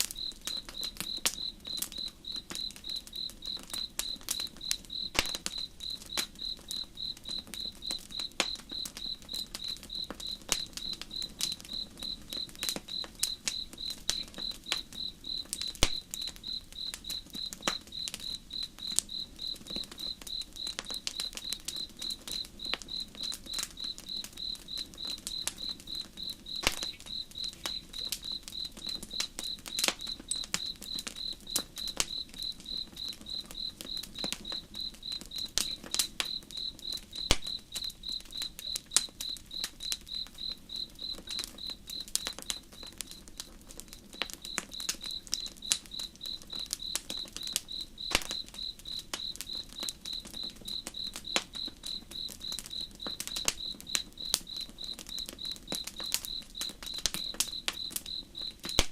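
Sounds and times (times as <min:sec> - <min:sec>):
campfire crackling and popping: 0:00.0 - 0:58.9
cricket chirping: 0:00.0 - 0:58.9.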